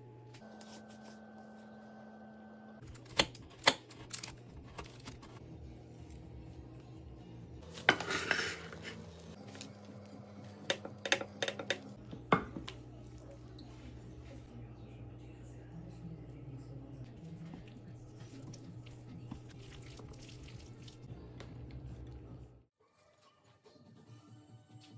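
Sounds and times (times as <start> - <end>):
faint background music: 4.1 - 24.9.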